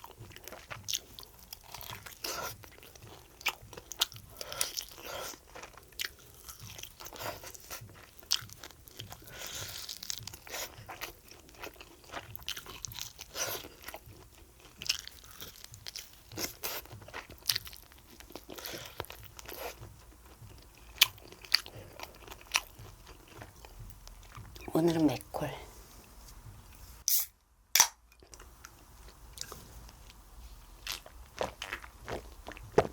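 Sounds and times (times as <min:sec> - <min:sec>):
person chewing crunchy food: 0:00.0 - 0:25.2, 0:26.7 - 0:32.9.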